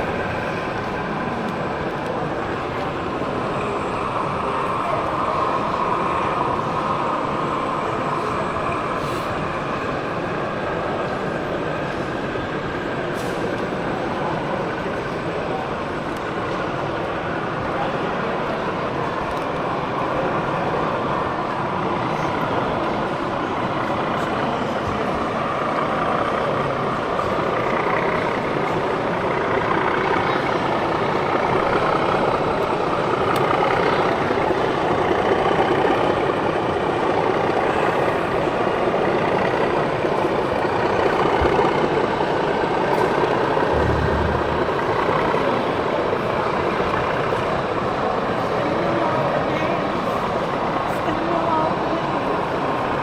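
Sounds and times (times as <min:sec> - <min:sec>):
crowd voices: 0:00.0 - 0:34.2, 0:37.4 - 0:46.2.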